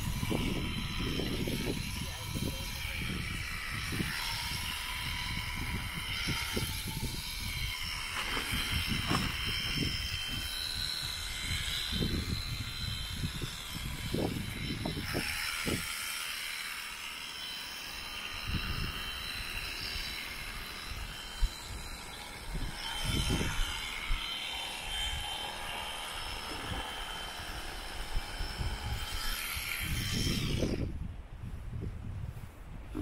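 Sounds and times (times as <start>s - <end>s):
electric shears buzzing: 0.0s - 30.9s.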